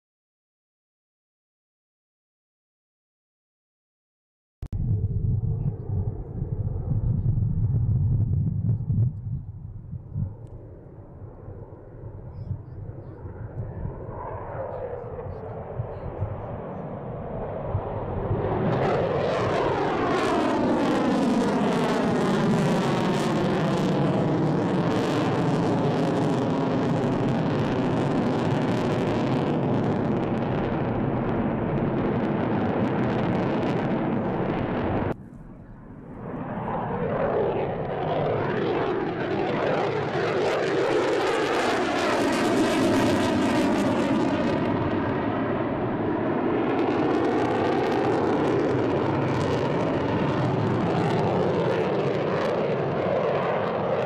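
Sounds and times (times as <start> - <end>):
jet engines roaring overhead: 4.8 - 54.0.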